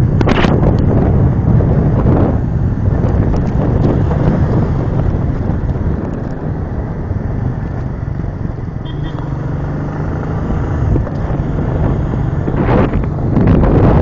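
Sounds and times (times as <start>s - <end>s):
motorcycle engine and road noise: 0.0s - 14.0s
wind buffeting microphone: 0.0s - 14.0s.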